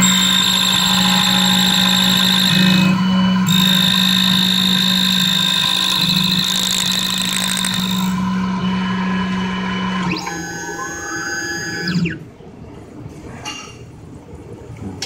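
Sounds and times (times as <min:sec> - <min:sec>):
cutter high whine: 0:00.0 - 0:12.2
key cutting machine humming: 0:00.0 - 0:12.2.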